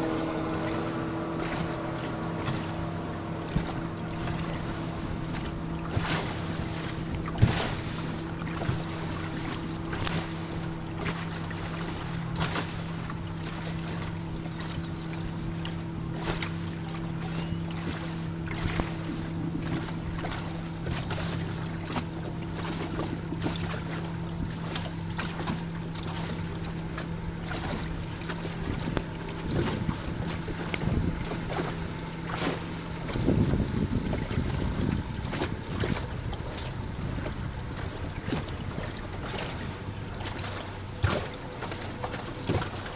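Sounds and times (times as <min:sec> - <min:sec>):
motorboat engine running: 0:00.0 - 0:42.9
water slapping against hull: 0:00.0 - 0:42.9.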